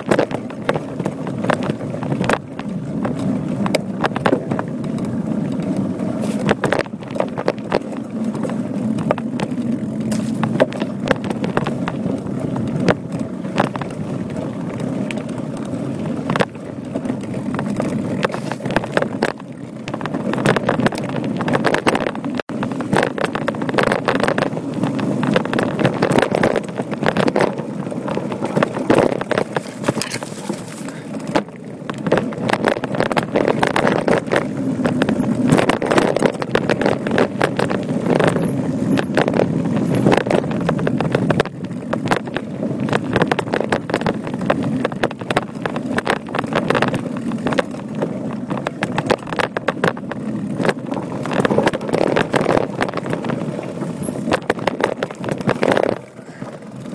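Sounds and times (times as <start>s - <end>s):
bike rattling and knocking: 0.0s - 56.9s
tyre and wind noise: 0.0s - 56.9s.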